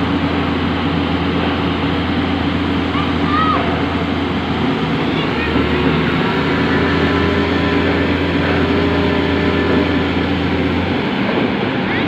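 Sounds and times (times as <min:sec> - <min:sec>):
diesel engine and hydraulics running: 0:00.0 - 0:12.0.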